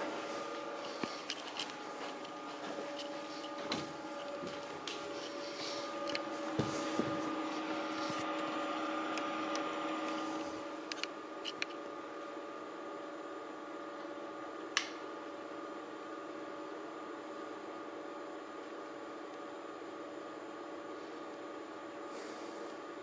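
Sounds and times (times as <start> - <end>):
projector cooling fan hum: 0.0 - 23.0.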